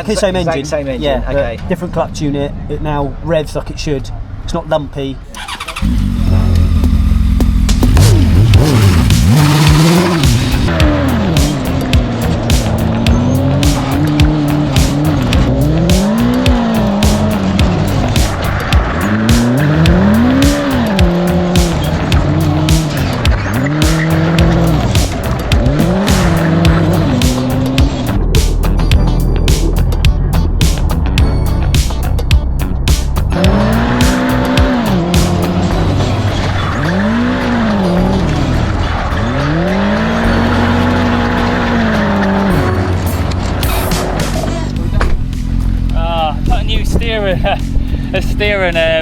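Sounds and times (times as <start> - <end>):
car engine revving: 5.3 - 31.2, 31.8 - 49.0
tyre noise: 5.4 - 47.7
background music: 5.6 - 49.0.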